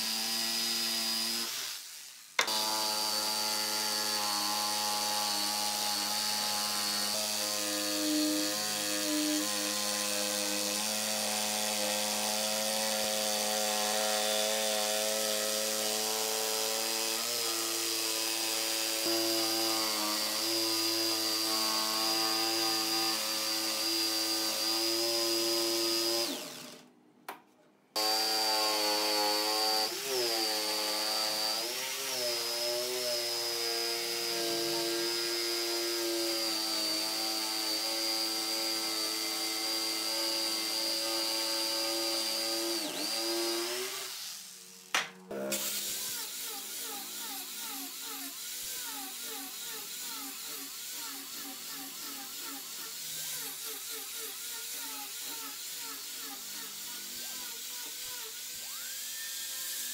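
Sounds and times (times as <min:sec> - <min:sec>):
jigsaw cutting wood: 0:00.0 - 0:26.9, 0:28.0 - 0:59.9.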